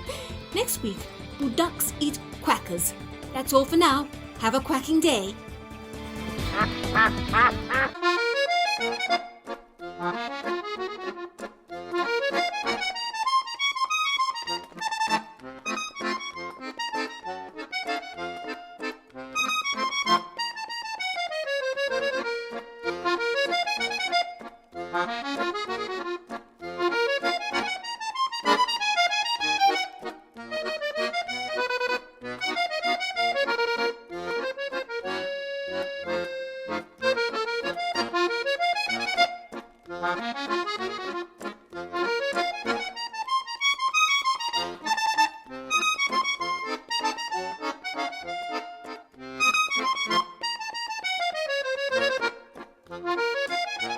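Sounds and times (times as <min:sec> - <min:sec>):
folk accordion tune: 0:00.0 - 0:53.9.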